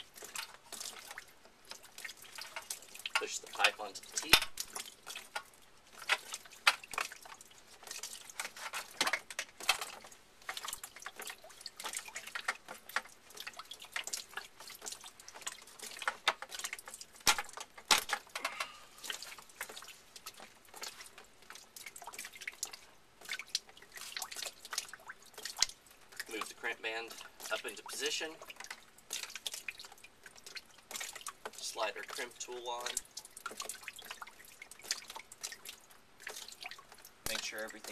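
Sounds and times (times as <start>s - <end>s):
water dripping: 0.0s - 37.9s.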